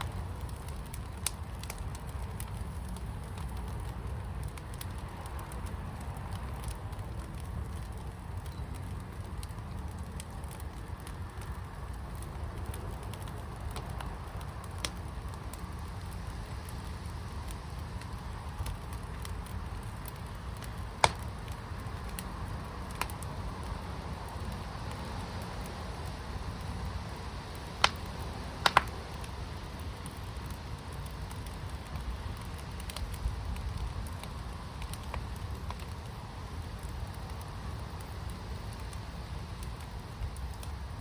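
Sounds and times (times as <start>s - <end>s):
fire burning with low rumble: 0.0s - 41.0s
fire popping: 0.0s - 41.0s.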